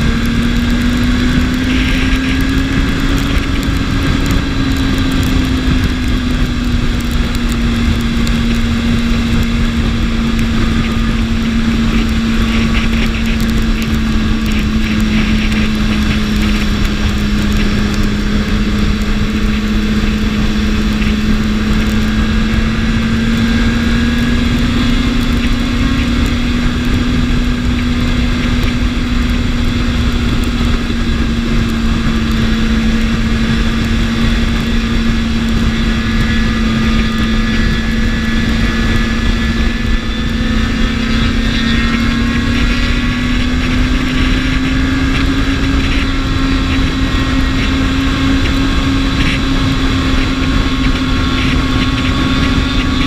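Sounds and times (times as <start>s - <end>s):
constant rushing noise: 0.0s - 53.0s
motorcycle engine cruising: 0.0s - 53.0s.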